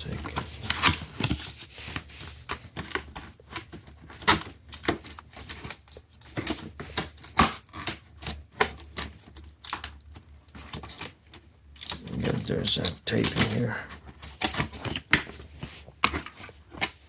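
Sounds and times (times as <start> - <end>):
packaging clicks and knocks: 0.0 - 17.0
packaging rustling: 0.0 - 17.0.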